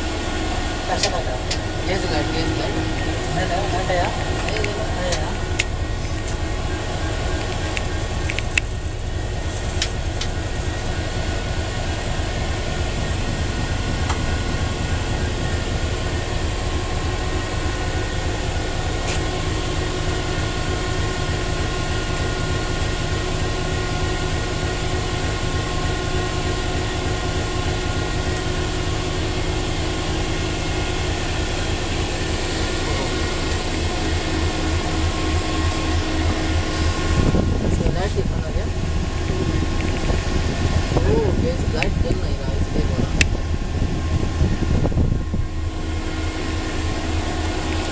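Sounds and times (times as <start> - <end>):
diesel locomotive idling: 0.0 - 47.9.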